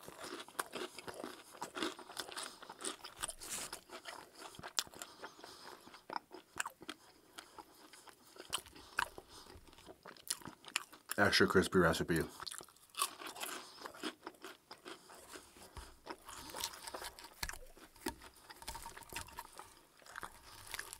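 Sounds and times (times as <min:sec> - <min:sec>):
chewing crispy fried chicken: 0:00.0 - 0:20.9
crunching crisp breading: 0:00.0 - 0:20.9.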